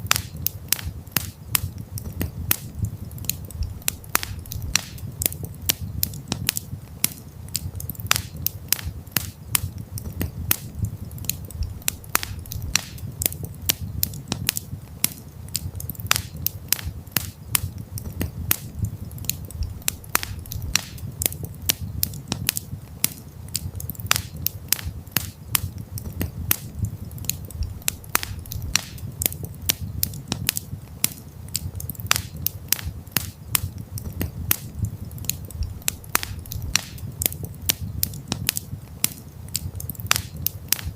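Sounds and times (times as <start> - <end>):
burning wood popping and snapping: 0.0 - 40.9
low rumble of flames: 0.0 - 40.9.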